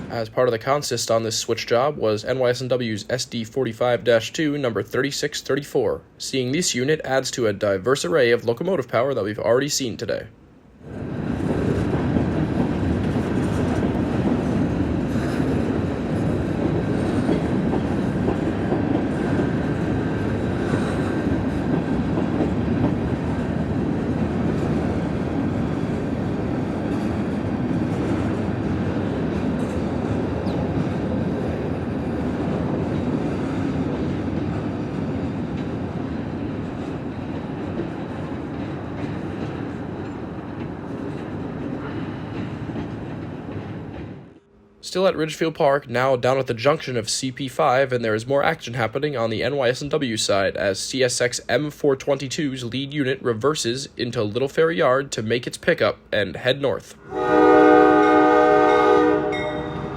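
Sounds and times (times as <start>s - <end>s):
diesel locomotive engine: 0.0s - 59.9s
train wheels rolling: 10.8s - 59.9s.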